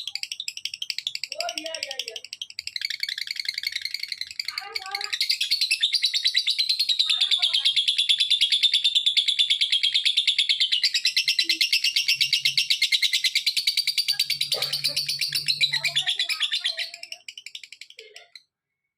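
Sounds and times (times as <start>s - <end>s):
lovebird rapid chirping: 0.0s - 18.5s.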